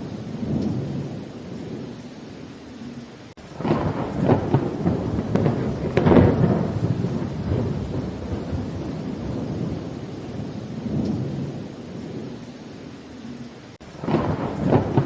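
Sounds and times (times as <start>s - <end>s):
thunder rumbling: 0.0s - 2.0s, 3.4s - 15.0s
steady rain: 0.0s - 15.0s.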